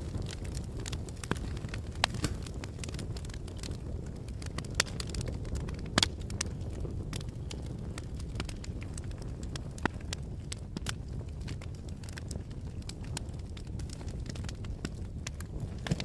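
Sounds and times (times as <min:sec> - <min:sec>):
low rumble of wind: 0:00.0 - 0:16.0
sharp fire pops: 0:00.0 - 0:16.0
wood fire crackling: 0:00.0 - 0:16.0.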